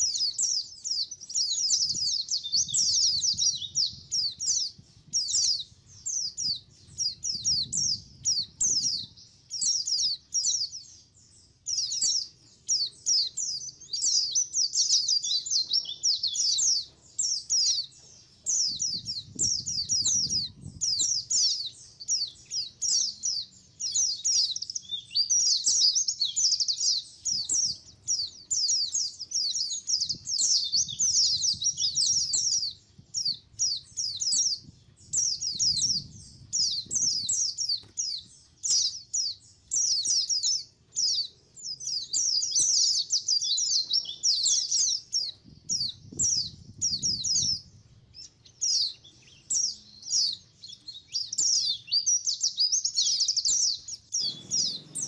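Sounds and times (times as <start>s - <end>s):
flock of birds twittering: 0.0s - 55.0s.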